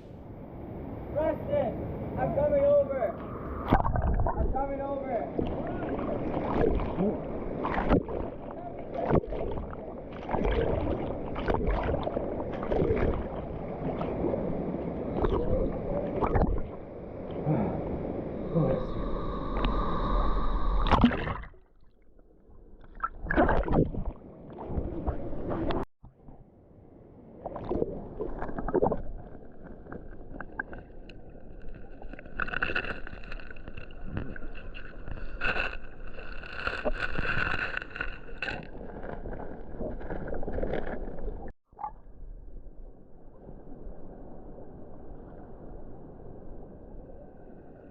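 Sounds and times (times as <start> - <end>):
water splashing and sloshing: 3.3 - 18.9, 19.5 - 47.9.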